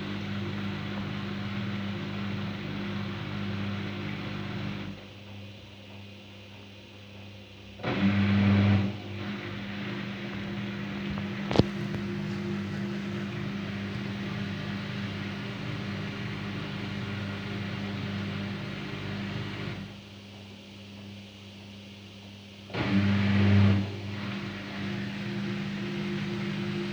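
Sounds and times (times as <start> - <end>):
washing machine hum: 0.0 - 26.9.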